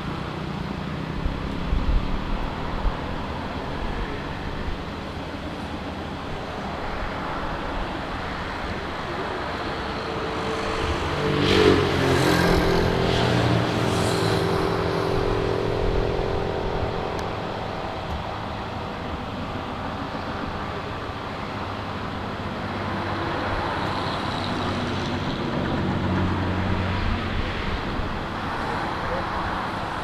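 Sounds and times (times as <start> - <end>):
jet airliner passing: 1.8 - 30.0.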